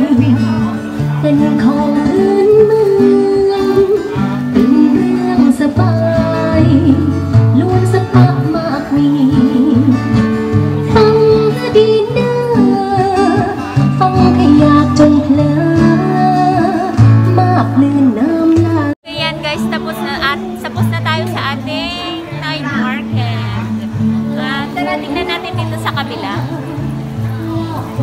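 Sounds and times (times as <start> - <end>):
woman singing into microphone: 0.0 - 23.2
acoustic guitar strumming: 0.0 - 28.0.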